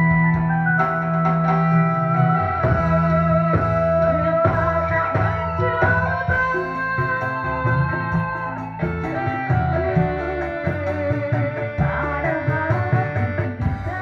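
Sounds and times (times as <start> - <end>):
electronic keyboard sustained notes: 0.0 - 14.0
pulsing bass line: 0.0 - 14.0
hand drums beat: 0.1 - 14.0.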